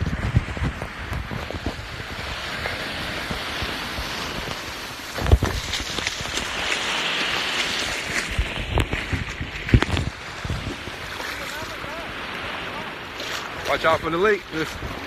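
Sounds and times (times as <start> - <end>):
wind on camera cover: 0.0 - 12.0, 13.2 - 15.0
surf rushing: 0.0 - 15.0.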